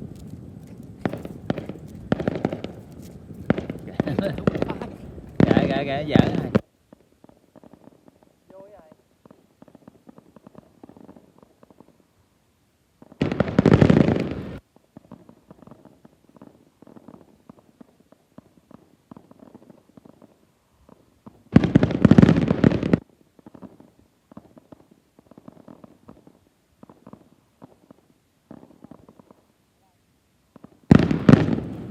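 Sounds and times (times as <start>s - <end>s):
fireworks crackling bursts: 0.0s - 31.9s.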